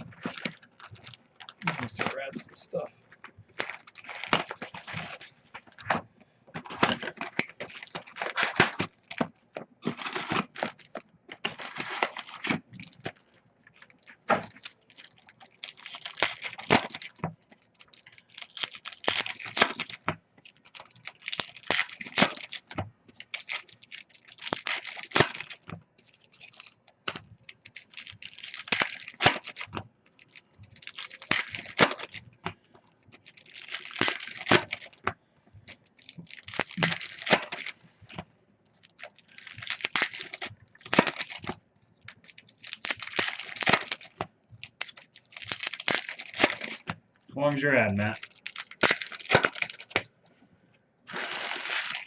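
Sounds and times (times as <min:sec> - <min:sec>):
wrappers torn and crinkled: 0:00.0 - 0:05.7, 0:06.6 - 0:50.1, 0:51.1 - 0:52.0.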